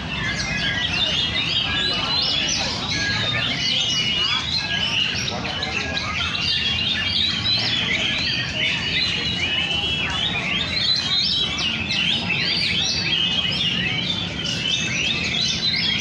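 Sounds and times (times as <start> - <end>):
birds singing: 0.0 - 16.0.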